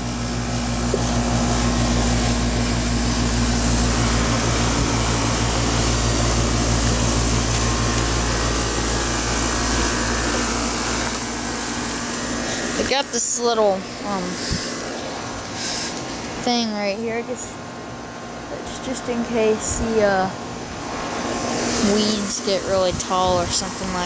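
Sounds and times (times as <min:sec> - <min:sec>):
compressor humming: 0:00.0 - 0:24.0
fan rushing air: 0:00.0 - 0:24.0.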